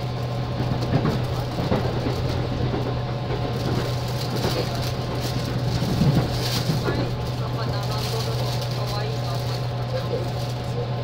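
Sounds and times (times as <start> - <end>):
train car hum and rumble: 0.0 - 11.0.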